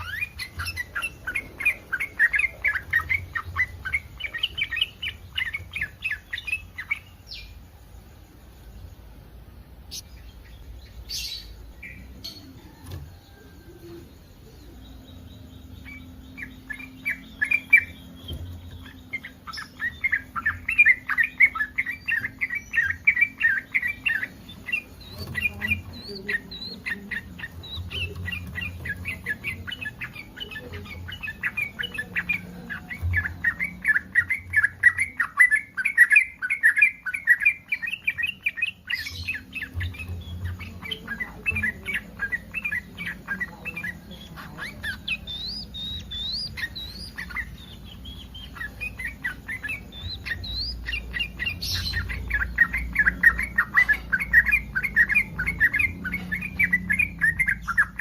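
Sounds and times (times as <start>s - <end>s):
bird chattering call: 0.0s - 7.5s, 15.1s - 58.0s.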